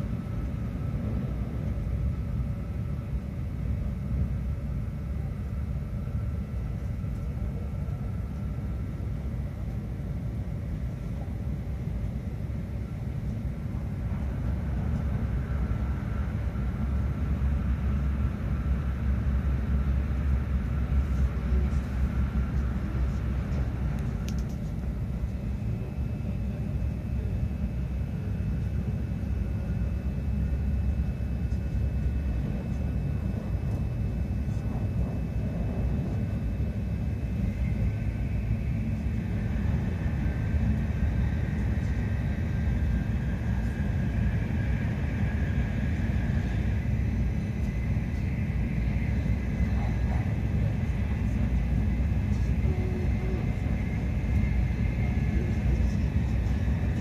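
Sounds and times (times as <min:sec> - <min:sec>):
train cabin rumble: 0:00.0 - 0:57.0.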